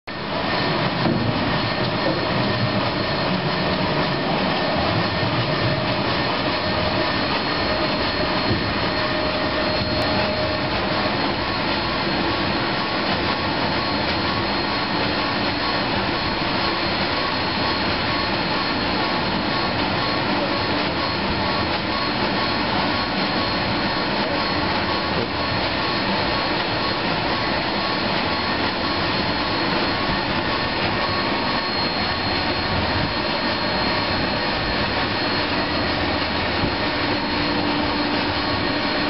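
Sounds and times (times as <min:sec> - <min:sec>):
conveyor mechanical whirring: 0:00.2 - 0:39.0
faint whine: 0:01.5 - 0:39.0.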